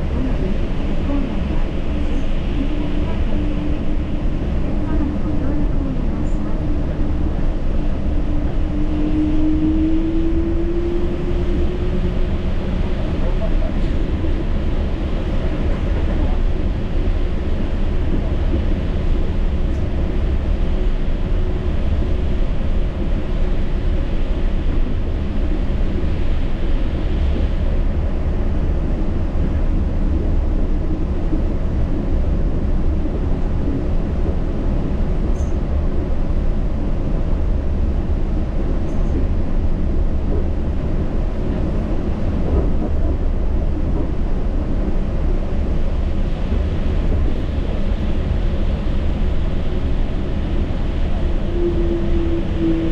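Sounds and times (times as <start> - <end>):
train rumbling from inside: 0.0 - 52.9.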